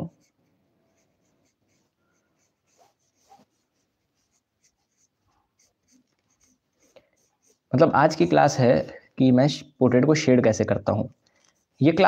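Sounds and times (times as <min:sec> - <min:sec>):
pencil scratching on paper: 0:00.0 - 0:09.0, 0:11.0 - 0:12.0.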